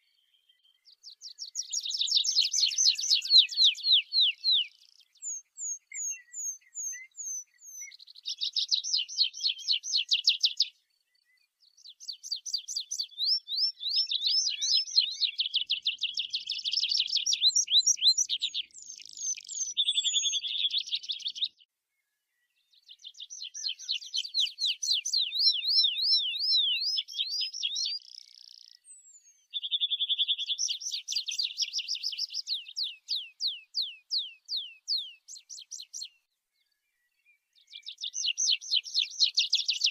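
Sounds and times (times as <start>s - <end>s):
bird singing trills: 0.0s - 21.7s, 22.4s - 39.9s.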